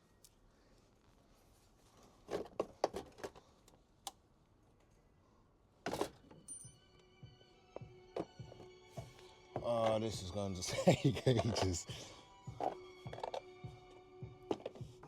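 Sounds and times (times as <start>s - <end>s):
faint music: 0.0s - 15.0s.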